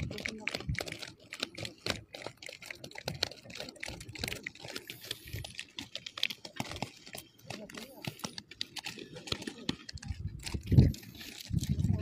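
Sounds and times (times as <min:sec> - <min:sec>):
fish slapping together: 0:00.0 - 0:12.0.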